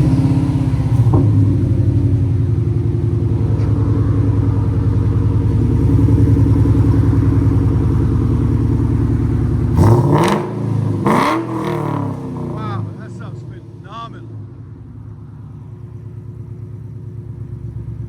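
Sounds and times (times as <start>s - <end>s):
car engine idling: 0.0s - 18.0s
car engine revving: 0.0s - 18.0s.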